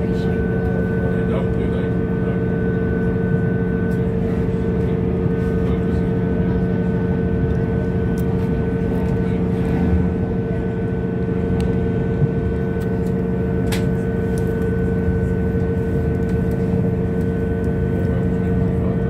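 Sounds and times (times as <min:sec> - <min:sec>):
train running hum and rumble: 0:00.0 - 0:19.0.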